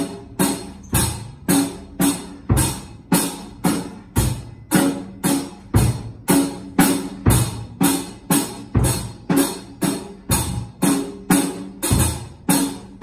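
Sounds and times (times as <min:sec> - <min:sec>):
drum kit steady beat: 0:00.0 - 0:13.0.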